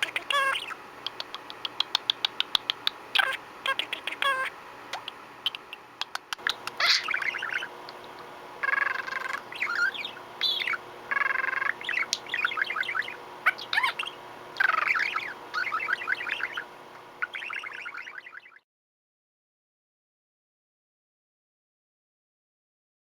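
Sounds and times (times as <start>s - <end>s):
budgerigar warbling and chattering: 0.0s - 18.6s.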